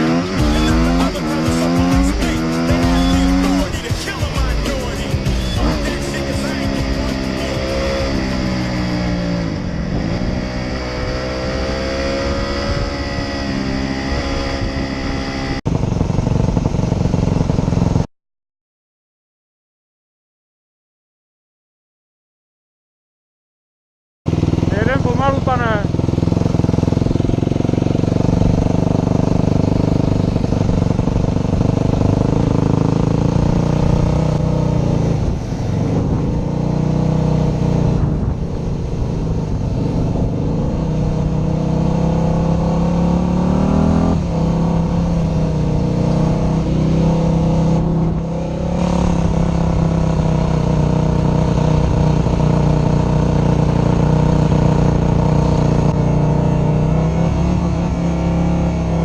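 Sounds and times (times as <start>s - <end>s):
motorcycle engine revving: 0.0s - 18.1s, 24.3s - 59.0s.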